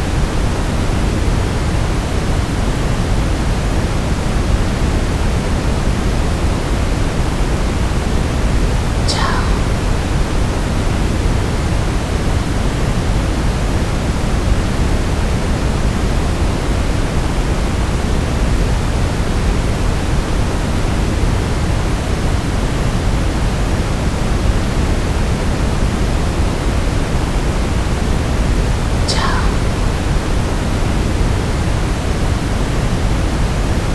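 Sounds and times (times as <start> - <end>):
brown noise hiss: 0.0 - 33.9.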